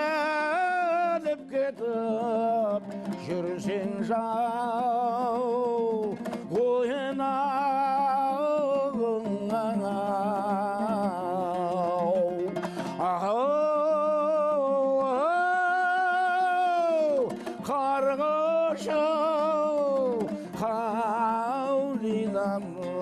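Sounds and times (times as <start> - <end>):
man singing long wavering notes: 0.0 - 23.0
plucked string accompaniment: 0.0 - 23.0.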